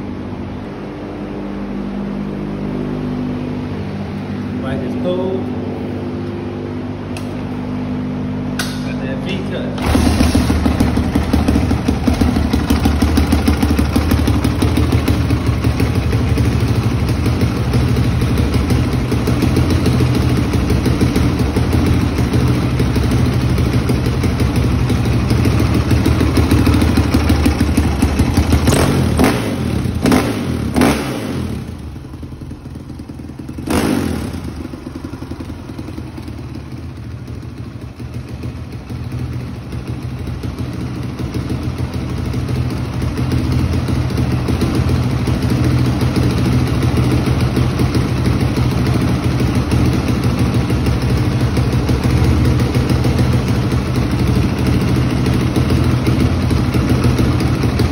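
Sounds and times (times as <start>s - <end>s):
motorcycle engine revving and idling: 0.0s - 57.9s.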